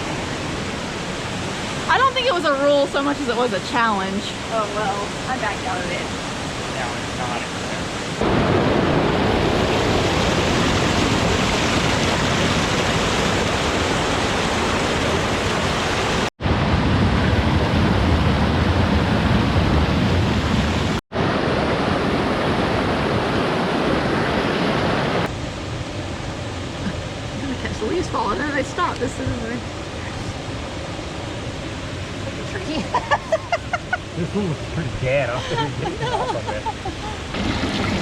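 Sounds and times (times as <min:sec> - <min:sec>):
waterfall rushing: 0:00.0 - 0:16.6, 0:19.7 - 0:38.0.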